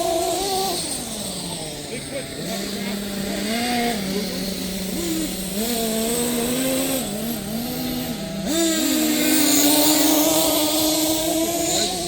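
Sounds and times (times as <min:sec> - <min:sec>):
small nitro engines revving: 0:00.0 - 0:12.0.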